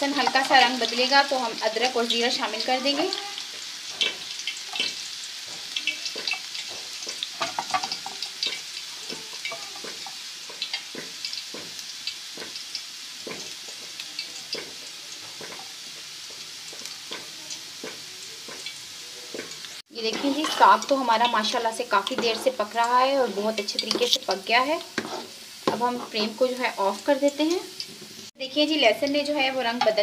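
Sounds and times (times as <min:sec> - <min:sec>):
garlic and chillies sizzling in oil: 0:00.0 - 0:30.0
oil popping and crackling: 0:00.0 - 0:30.0.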